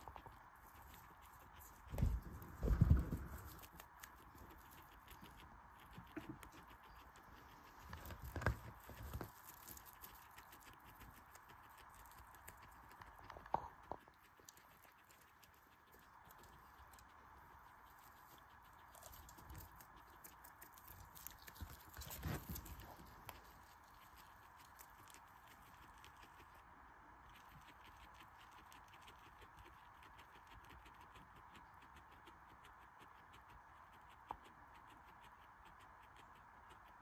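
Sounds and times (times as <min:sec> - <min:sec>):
guinea pig chewing: 0:00.0 - 0:37.0.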